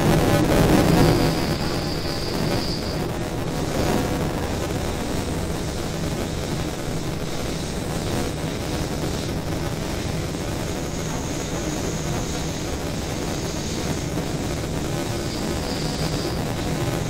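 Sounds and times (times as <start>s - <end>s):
train running noise inside carriage: 0.0s - 17.0s.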